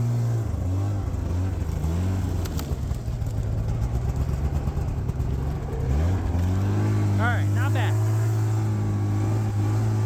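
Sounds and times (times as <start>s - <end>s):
snowmobile engine idling: 0.0s - 10.0s.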